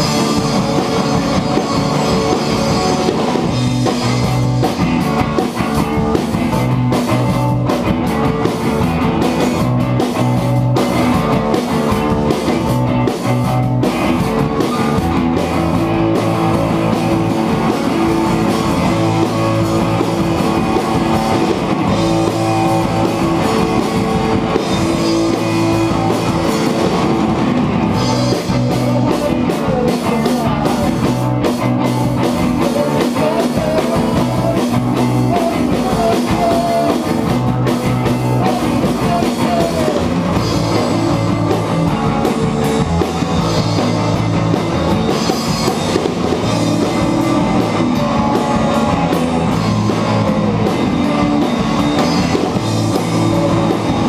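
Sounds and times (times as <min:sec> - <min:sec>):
live instrumental rock band: 0:00.0 - 0:54.0.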